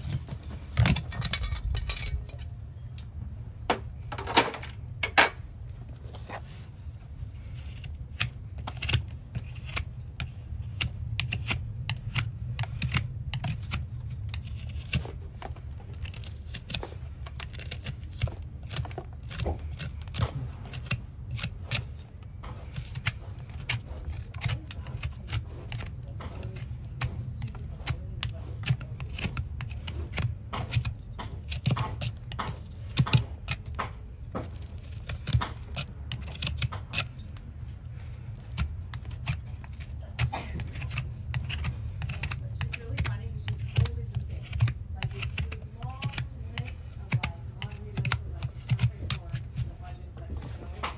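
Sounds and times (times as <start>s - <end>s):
hoof knife slicing and scraping: 6.0s - 50.9s.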